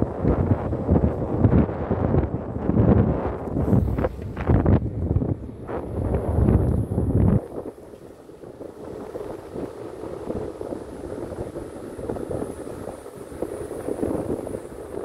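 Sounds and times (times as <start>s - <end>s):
motorbike engine and road noise: 0.0s - 15.0s
wind on microphone: 0.0s - 15.0s.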